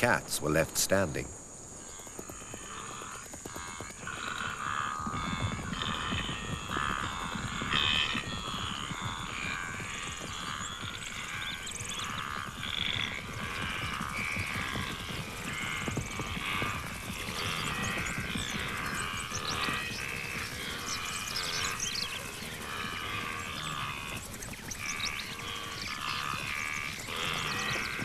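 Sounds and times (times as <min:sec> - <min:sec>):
rumble of galloping hooves: 0:00.0 - 0:28.0
wildebeest croaking grunts: 0:02.3 - 0:28.0.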